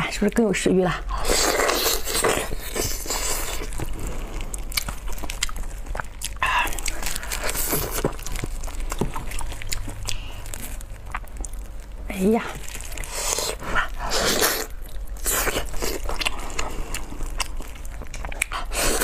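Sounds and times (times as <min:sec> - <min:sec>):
person biting and chewing: 0:01.2 - 0:12.0, 0:12.6 - 0:19.0.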